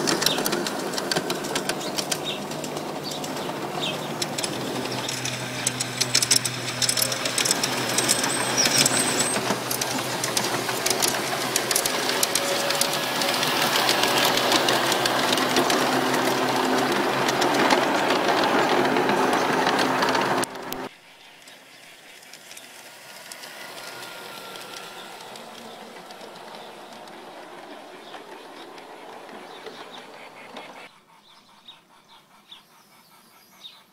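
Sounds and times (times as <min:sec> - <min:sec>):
model train motor whirring: 0:00.0 - 0:30.9
wheels clicking over rail joints: 0:00.0 - 0:30.9.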